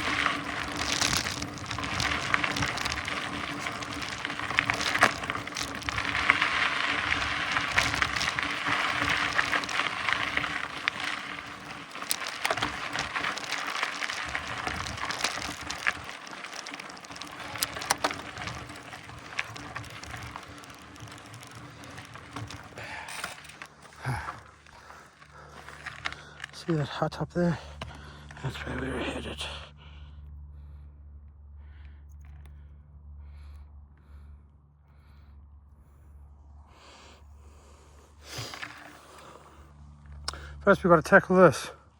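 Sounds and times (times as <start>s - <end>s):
bike clicks and rattles: 0.0s - 28.9s, 31.6s - 34.3s, 36.8s - 41.9s
bike tyres rolling on gravel: 0.0s - 30.0s, 36.7s - 41.9s.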